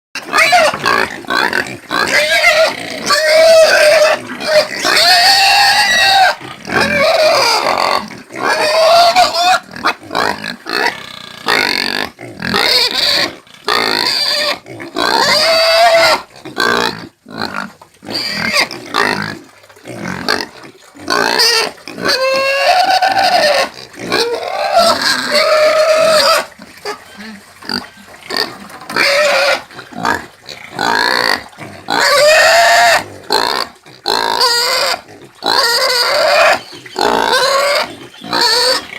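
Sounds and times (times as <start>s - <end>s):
pigs squealing: 0.2s - 38.9s.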